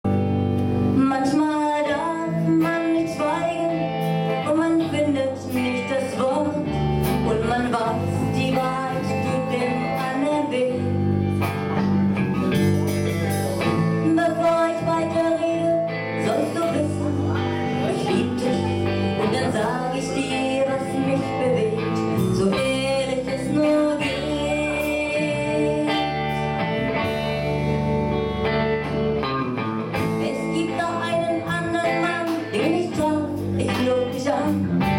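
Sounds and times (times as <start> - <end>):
bass guitar: 0.0 - 34.9
drums: 0.0 - 34.9
electric guitar: 0.0 - 34.9
woman singing: 0.9 - 11.5, 13.6 - 26.8, 30.1 - 34.9.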